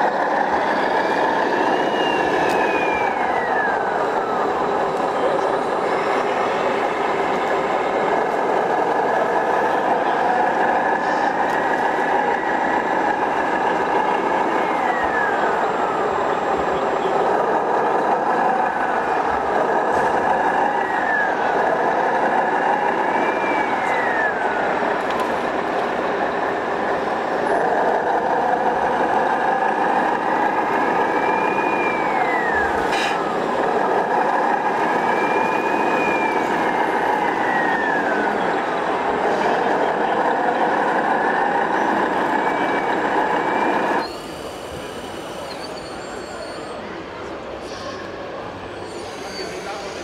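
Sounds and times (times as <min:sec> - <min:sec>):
model truck electric motors whining: 0:00.0 - 0:41.0.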